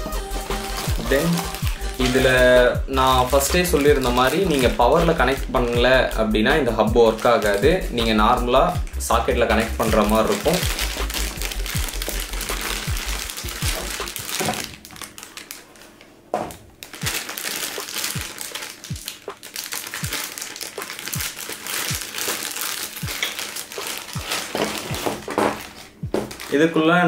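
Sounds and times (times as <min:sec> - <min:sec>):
soft background music with beat: 0:00.0 - 0:14.4, 0:16.9 - 0:26.6
plastic bag crinkling: 0:00.3 - 0:08.1, 0:09.1 - 0:16.0, 0:16.8 - 0:27.0.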